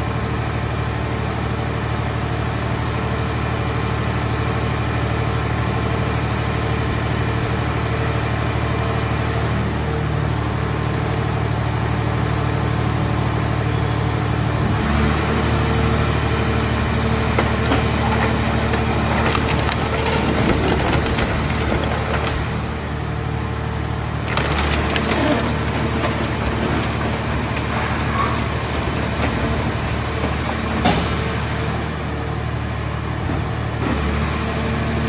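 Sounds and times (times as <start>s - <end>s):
power unit humming and whining: 4.8s - 35.0s.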